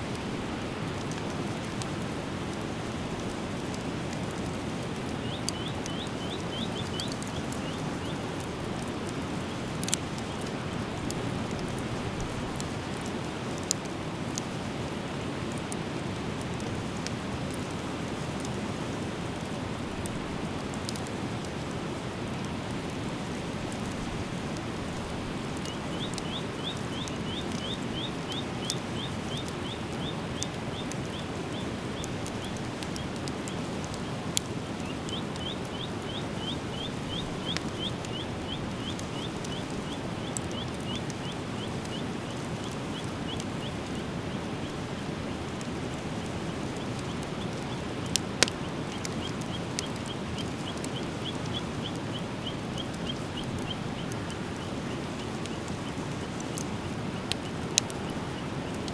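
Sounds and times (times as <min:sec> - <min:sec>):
fire burning with hiss: 0:00.0 - 0:58.9
fire pops and crackles: 0:00.0 - 0:58.9.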